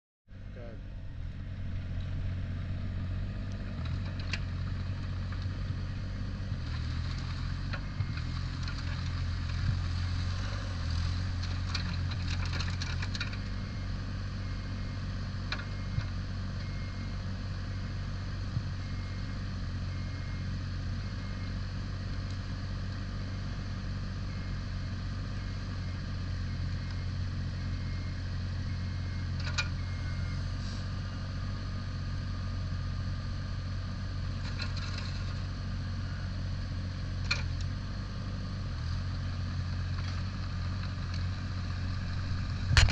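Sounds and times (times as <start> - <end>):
diesel engine running: 0.3 - 42.9.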